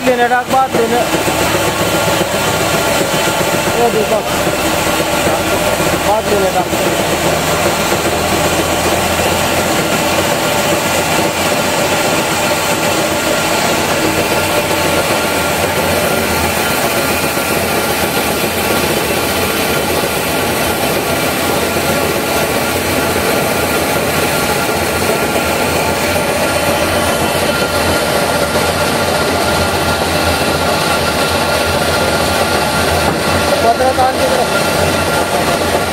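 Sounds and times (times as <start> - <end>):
washing machine humming: 0.0 - 35.9.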